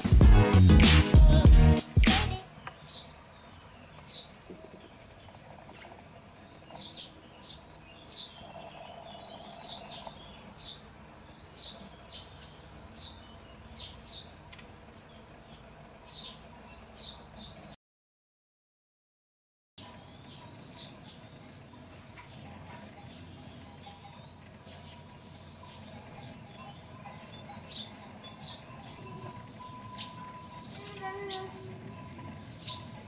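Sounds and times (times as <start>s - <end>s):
low outdoor hum: 0.0s - 17.8s, 19.8s - 33.0s
songbirds chirping: 0.0s - 17.8s, 19.8s - 33.0s.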